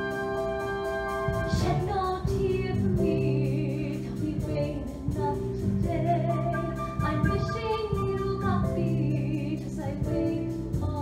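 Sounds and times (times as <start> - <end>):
woman singing a ballad: 0.0 - 11.0.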